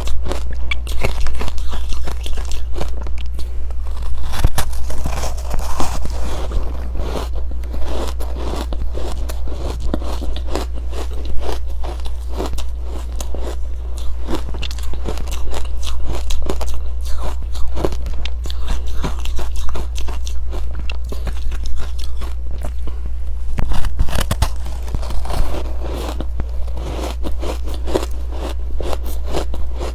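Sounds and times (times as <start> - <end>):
chewing crunchy ice: 0.0 - 29.9
steady low hum: 0.0 - 29.9.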